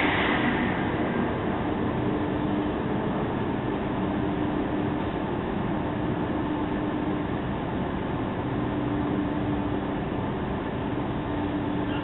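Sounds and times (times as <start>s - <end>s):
steady hum: 0.0s - 12.0s
train interior running noise: 0.0s - 12.0s.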